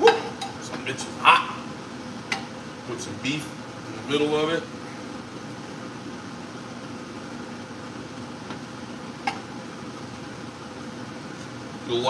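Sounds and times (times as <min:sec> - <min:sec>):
fan-like hum: 0:00.0 - 0:12.0.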